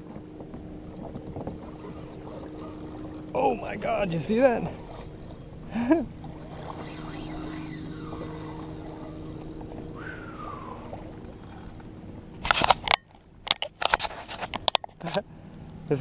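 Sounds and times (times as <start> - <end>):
steady low hum: 0.0 - 13.4
water and wind noise: 0.0 - 16.0.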